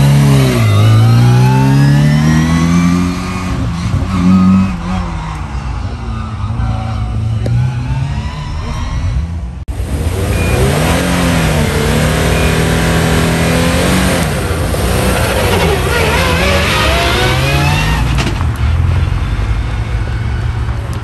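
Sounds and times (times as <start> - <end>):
rally car engine revving: 0.0 - 20.6
distant car engine: 0.0 - 21.0.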